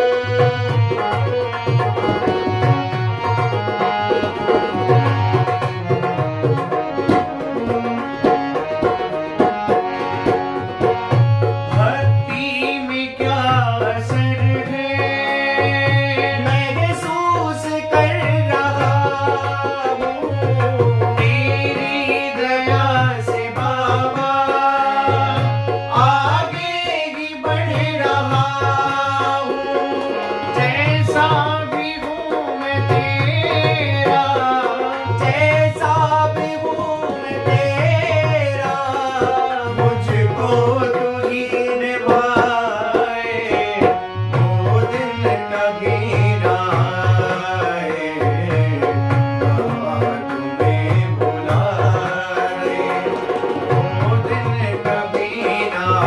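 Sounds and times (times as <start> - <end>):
harmonium melody: 0.0 - 56.0
man singing: 0.0 - 56.0.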